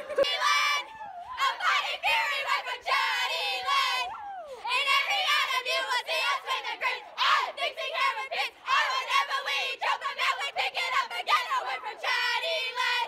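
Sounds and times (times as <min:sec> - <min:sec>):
girls singing and shouting: 0:00.0 - 0:13.0.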